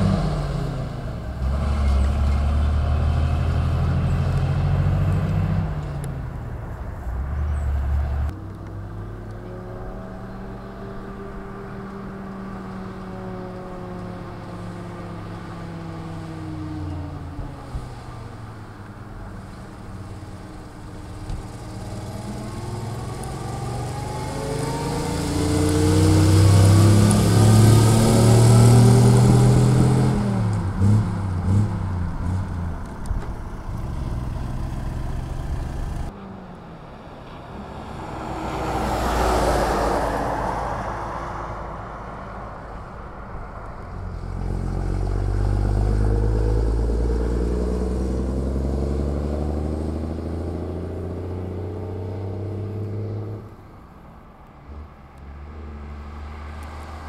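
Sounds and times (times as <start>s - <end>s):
vehicle road noise passing: 0.0s - 57.0s
vintage truck engines passing: 0.0s - 57.0s.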